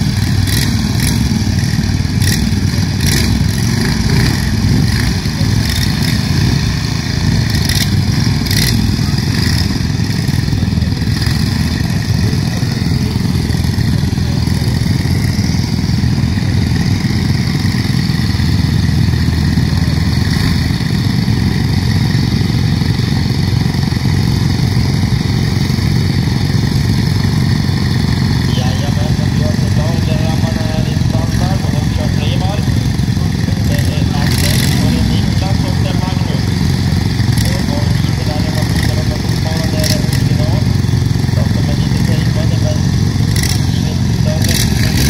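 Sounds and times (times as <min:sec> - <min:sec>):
lawn mower engines droning: 0:00.0 - 0:45.0.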